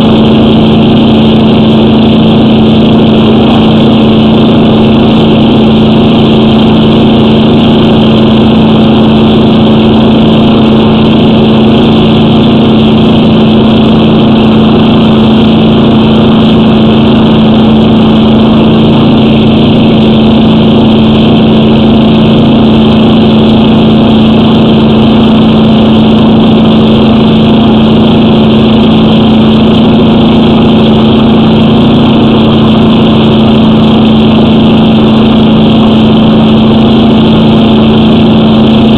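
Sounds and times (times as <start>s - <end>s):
engine running loud and steady: 0.0s - 38.9s.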